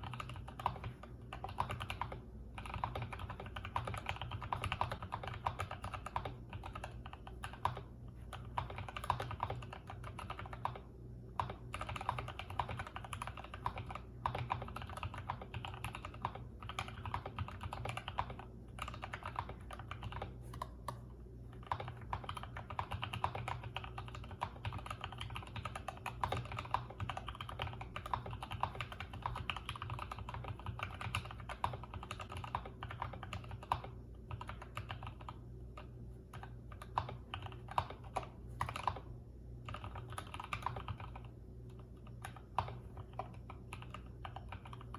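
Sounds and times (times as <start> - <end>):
faint low hum: 0.0 - 44.9
mechanical keyboard typing: 0.0 - 44.9.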